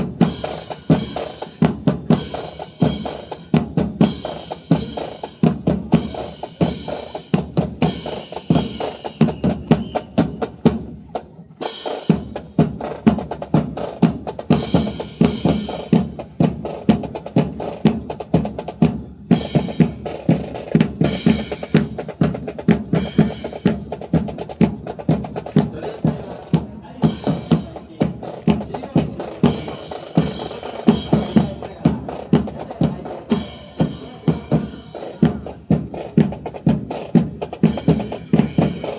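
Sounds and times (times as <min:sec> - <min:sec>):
snare and bass drums beating: 0:00.0 - 0:38.9.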